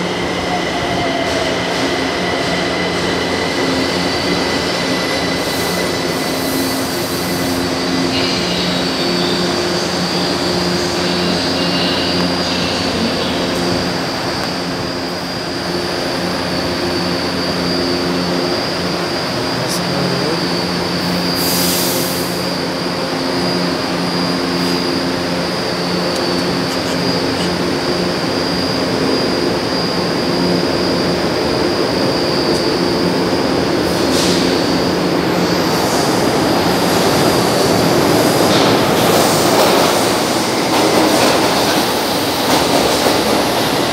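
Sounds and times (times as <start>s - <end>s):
train electric hum with whine: 0.0s - 43.9s
train rumbling through tunnel: 0.0s - 43.9s.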